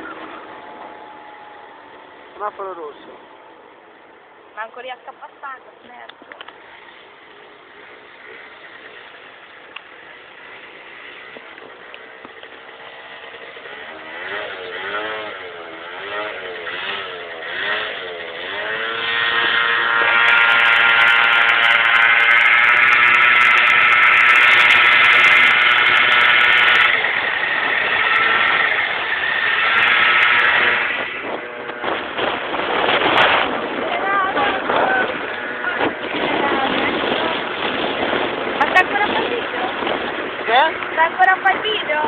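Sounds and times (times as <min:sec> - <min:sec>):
scooter engine revving: 0:00.0 - 0:04.4, 0:06.1 - 0:42.0.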